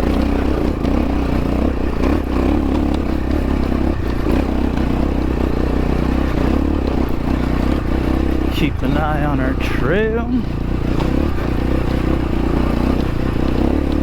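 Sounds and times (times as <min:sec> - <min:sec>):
knocks and clatter: 0:00.0 - 0:09.8, 0:10.4 - 0:14.0
dirt bike engine under load: 0:00.0 - 0:14.0.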